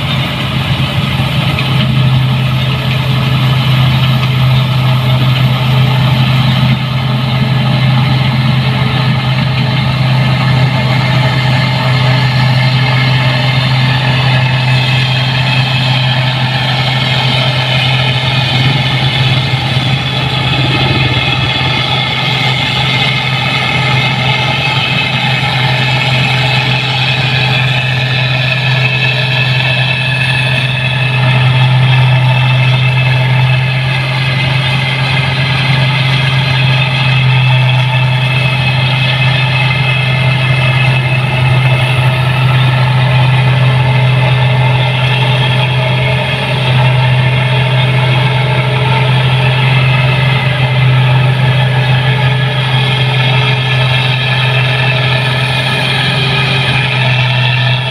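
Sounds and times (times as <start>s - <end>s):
combine harvester engine drone: 0.0s - 57.9s
machinery whir: 0.0s - 57.9s.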